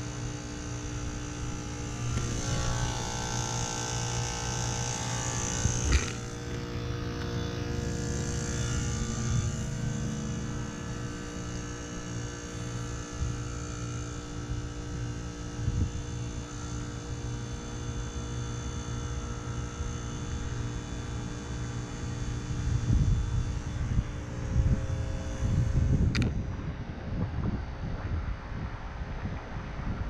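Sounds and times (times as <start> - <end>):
heat pump compressor humming: 0.0 - 26.8.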